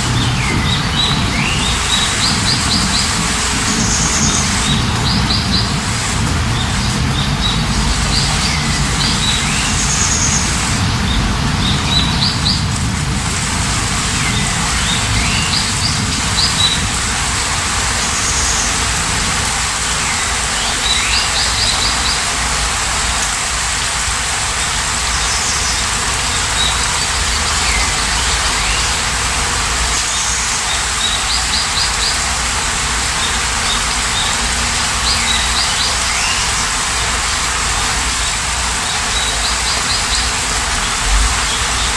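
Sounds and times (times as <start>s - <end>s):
birds singing: 0.0s - 12.8s, 14.0s - 23.5s, 24.5s - 41.9s
steady rain: 0.0s - 41.9s.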